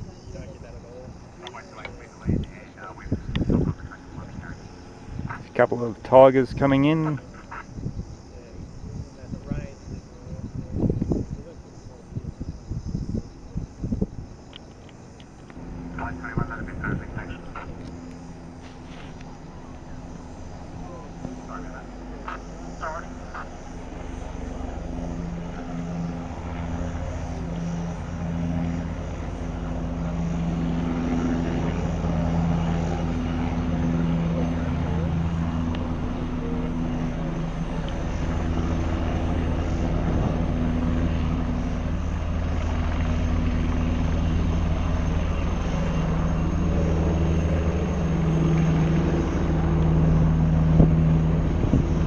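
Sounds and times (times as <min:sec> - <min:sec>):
helicopter rotor and engine drone: 0:00.0 - 0:52.0.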